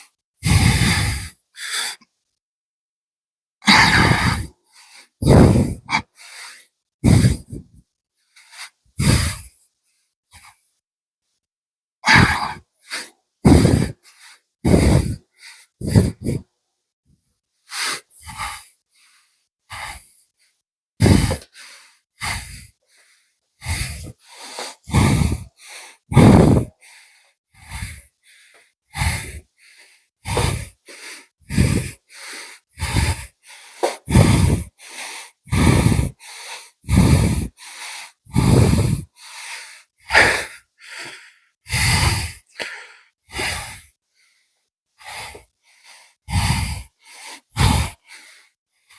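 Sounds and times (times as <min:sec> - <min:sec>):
man breathing hard and fast: 0:00.0 - 0:02.2, 0:03.6 - 0:10.8, 0:12.0 - 0:16.5, 0:17.4 - 0:48.9.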